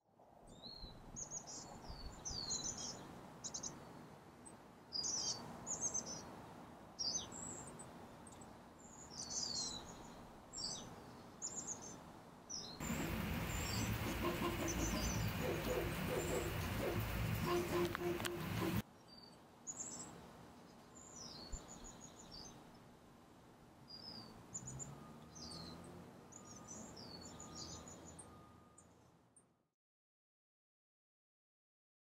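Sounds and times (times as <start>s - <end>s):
background noise with low hum: 0.2s - 29.6s
small birds chirping: 0.5s - 6.3s, 7.0s - 22.8s, 23.9s - 29.1s.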